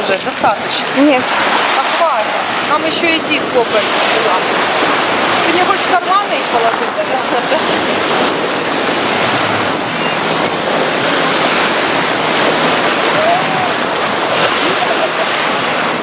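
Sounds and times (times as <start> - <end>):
small waves on sandy shore: 0.0 - 16.0.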